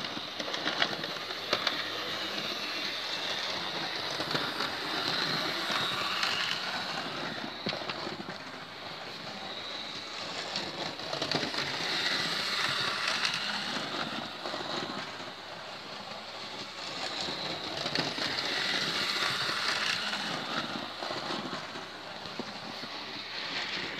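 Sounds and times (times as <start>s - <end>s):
model train whirring and rattling: 0.0s - 23.9s.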